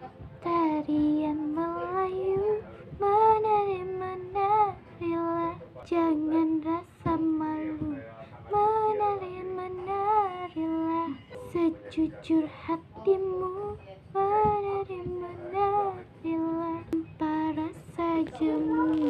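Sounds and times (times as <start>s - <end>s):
girl singing: 0.4s - 19.0s.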